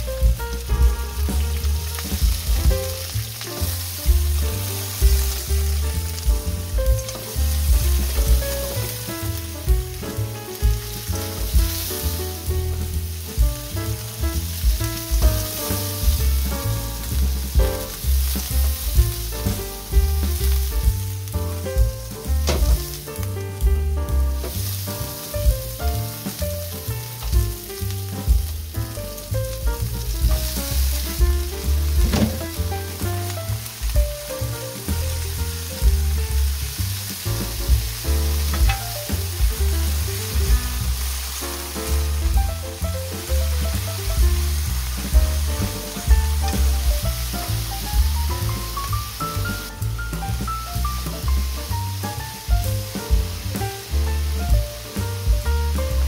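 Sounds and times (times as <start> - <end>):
peppers sizzling in hot oil: 0.0 - 56.0.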